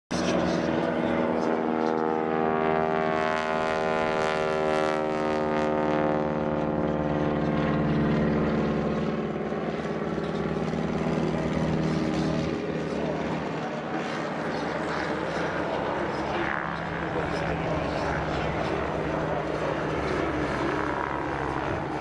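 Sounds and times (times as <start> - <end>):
propeller aircraft engines droning: 0.1 - 22.0.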